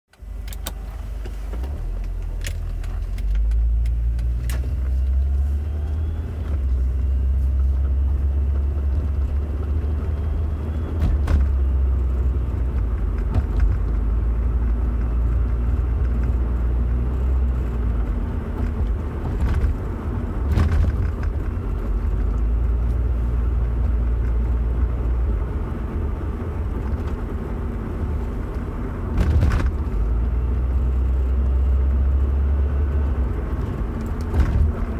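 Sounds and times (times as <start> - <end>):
road vehicle rumble: 0.1 - 34.9.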